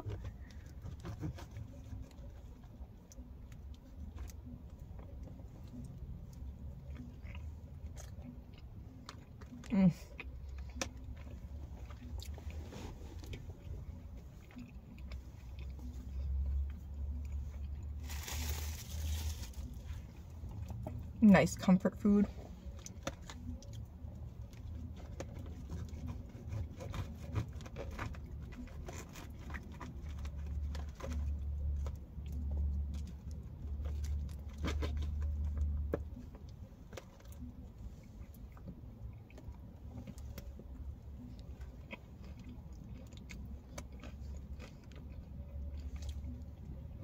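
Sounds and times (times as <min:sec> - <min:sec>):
chewing: 0:00.0 - 0:21.1, 0:22.6 - 0:47.0.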